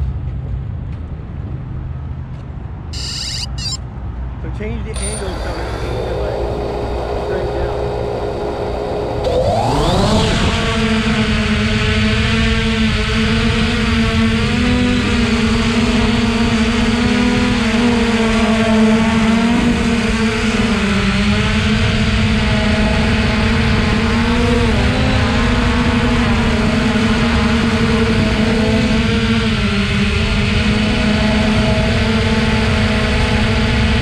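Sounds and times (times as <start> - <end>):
drone propellers whirring: 2.8 - 34.0.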